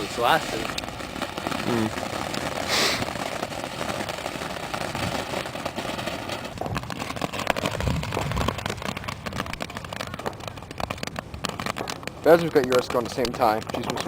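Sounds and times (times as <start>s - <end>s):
firework crackling: 0.0s - 14.0s
firework fountain hissing: 0.0s - 14.0s.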